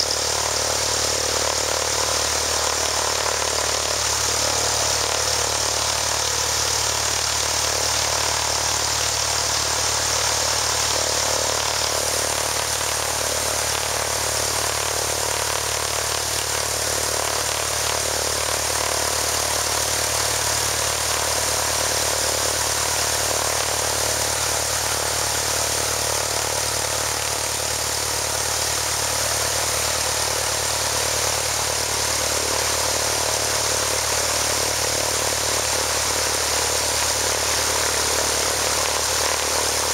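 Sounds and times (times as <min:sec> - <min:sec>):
aircraft piston engine running: 0:00.0 - 0:39.9.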